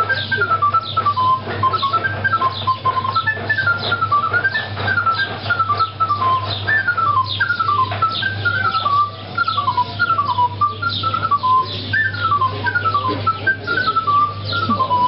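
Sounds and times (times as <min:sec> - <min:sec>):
flute folk melody: 0:00.0 - 0:15.0.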